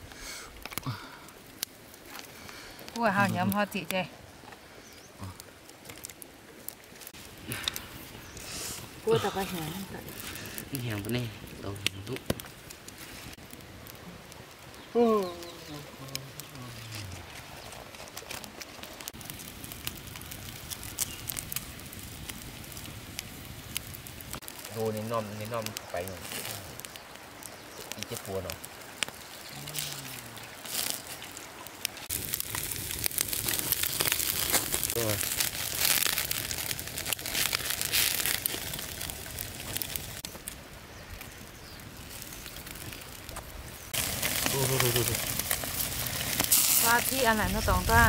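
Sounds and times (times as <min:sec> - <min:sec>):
embers popping: 0:00.0 - 0:48.0
wood fire crackling: 0:00.0 - 0:48.0
bamboo skewers rustling: 0:05.2 - 0:48.0.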